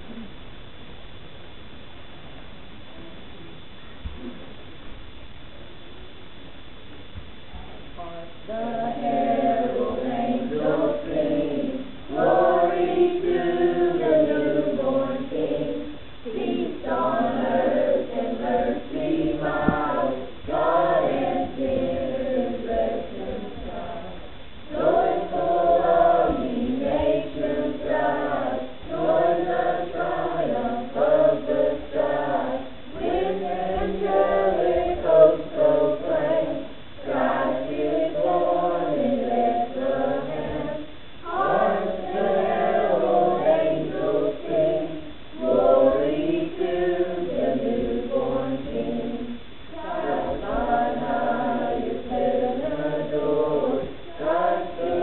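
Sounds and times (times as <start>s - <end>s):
choir singing: 8.5s - 55.0s.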